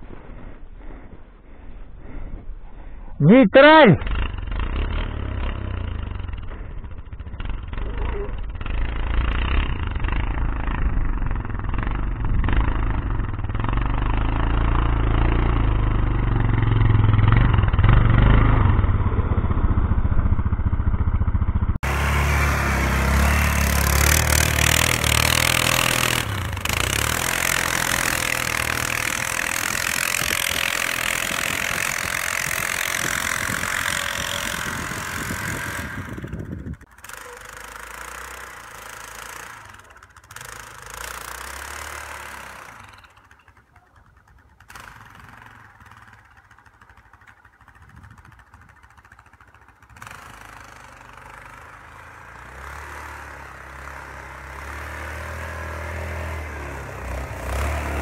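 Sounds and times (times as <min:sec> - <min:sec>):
quad engine revving: 0:03.3 - 0:58.0.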